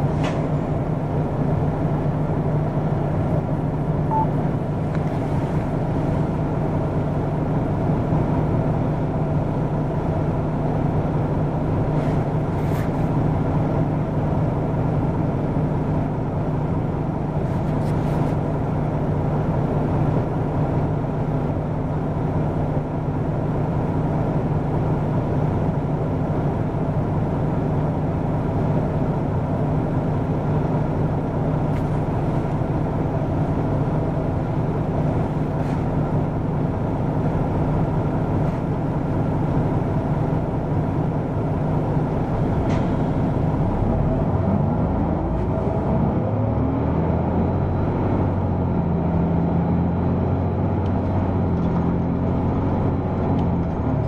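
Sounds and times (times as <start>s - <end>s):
diesel bus engine drone: 0.0s - 54.0s
road noise: 0.0s - 54.0s.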